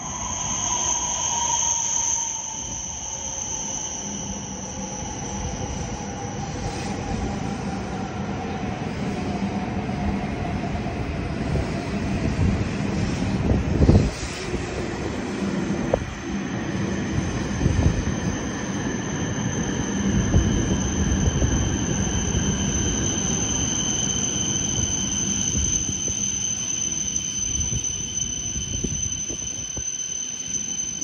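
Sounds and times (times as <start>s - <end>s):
high-pitched train whine: 0.0s - 31.0s.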